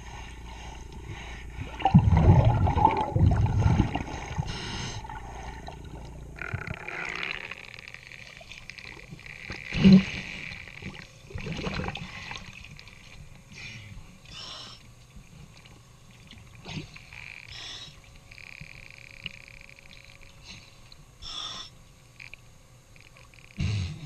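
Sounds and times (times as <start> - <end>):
water swishing and bubbling: 0.0 - 21.2.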